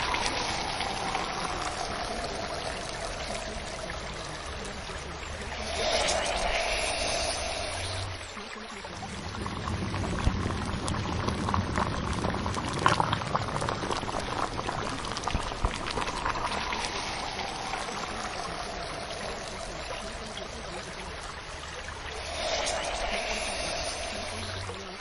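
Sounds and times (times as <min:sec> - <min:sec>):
water bubbling and splashing: 0:00.0 - 0:25.0.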